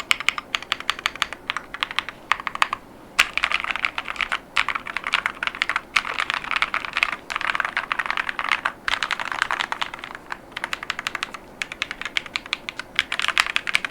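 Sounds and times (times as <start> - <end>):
mechanical keyboard typing: 0.0 - 13.9.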